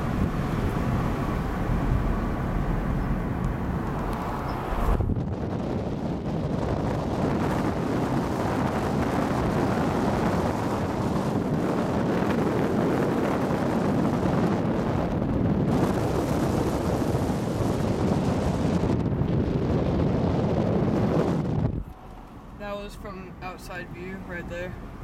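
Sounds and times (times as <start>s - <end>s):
wind buffeting microphone: 0.0s - 23.4s
car wind and road noise: 0.0s - 25.0s.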